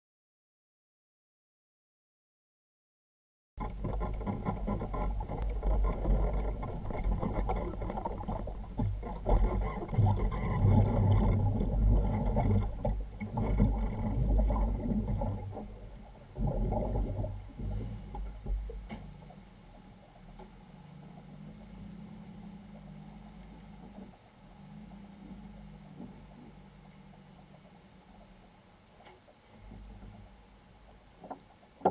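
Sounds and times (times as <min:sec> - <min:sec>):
watercraft engine rumble: 0:03.6 - 0:31.9.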